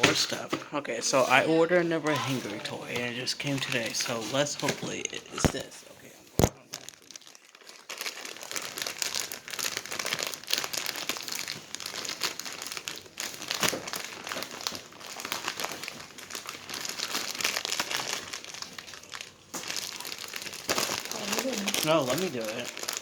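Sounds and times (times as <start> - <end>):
packaging crinkling and rustling: 1.7 - 23.0.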